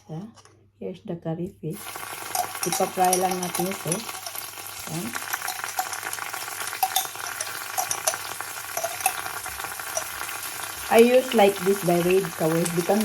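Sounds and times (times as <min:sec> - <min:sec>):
curry paste sizzling in oil: 0:01.8 - 0:13.0.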